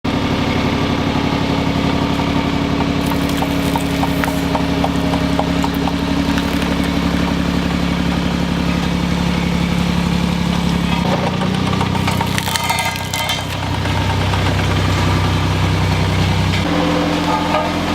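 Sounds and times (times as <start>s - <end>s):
road roller engine running: 0.1s - 17.9s.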